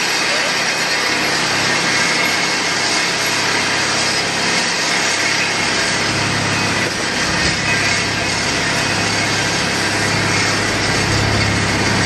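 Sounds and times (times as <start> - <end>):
wire saw whirring: 0.0 - 12.0.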